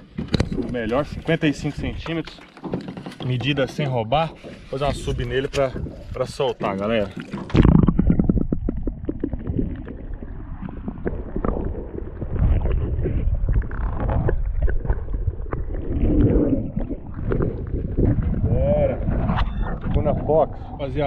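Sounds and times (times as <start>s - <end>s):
underwater knocks and bumps: 0.0s - 21.0s
underwater sloshing and gurgling: 0.0s - 21.0s.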